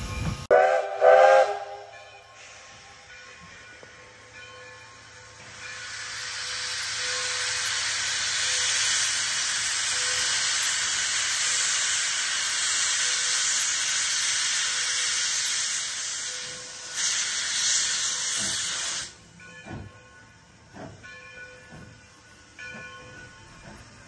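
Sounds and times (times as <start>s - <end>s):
steam locomotive venting steam: 0.0s - 24.0s.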